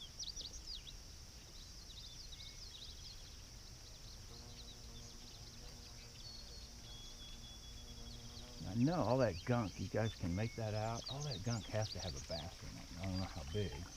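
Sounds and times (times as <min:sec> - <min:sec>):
faint low hum: 0:00.0 - 0:13.9
insect drone: 0:00.0 - 0:13.9
songbirds chirping: 0:00.0 - 0:13.9.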